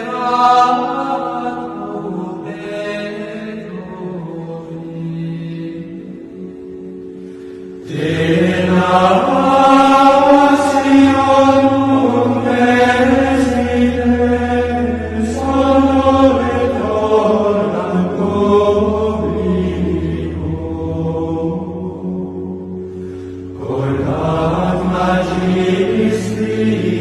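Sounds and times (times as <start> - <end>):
plainchant singing: 0.0 - 7.0, 7.8 - 27.0
low drone: 0.0 - 27.0.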